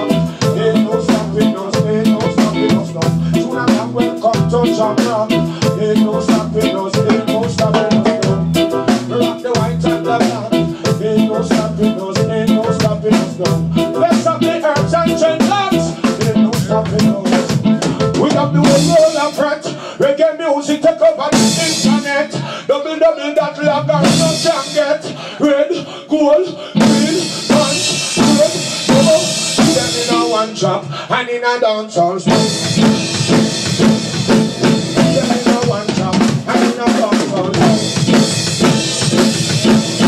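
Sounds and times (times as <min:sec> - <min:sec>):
live reggae music: 0:00.0 - 0:40.0.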